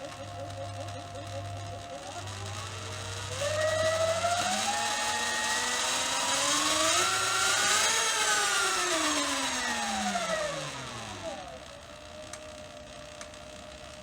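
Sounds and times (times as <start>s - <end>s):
electric motor and chain whining: 0.0s - 14.0s.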